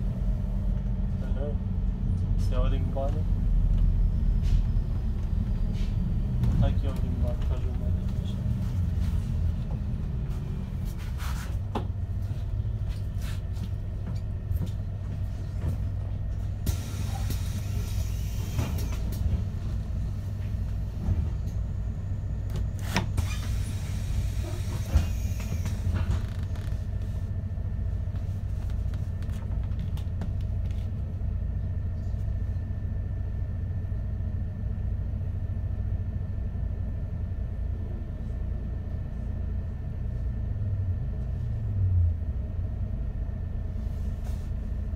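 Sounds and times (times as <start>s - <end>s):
bus engine rumble: 0.0s - 44.9s.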